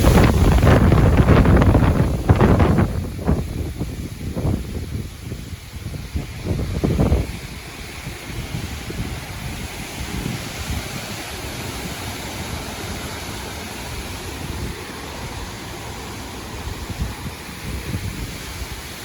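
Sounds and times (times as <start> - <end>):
storm wind rushing: 0.0 - 19.0
wind buffeting microphone: 0.0 - 19.0.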